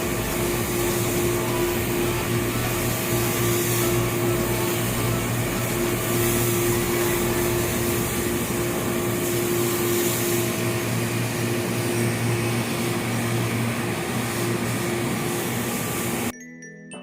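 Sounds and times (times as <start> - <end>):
electric machine humming: 0.0 - 16.3
hiss: 0.0 - 16.3.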